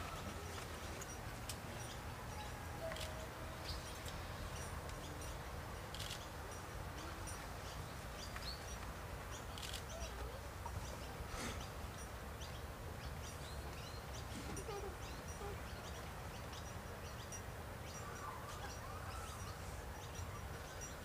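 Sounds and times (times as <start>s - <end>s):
bird chirps and calls: 0.0s - 21.0s.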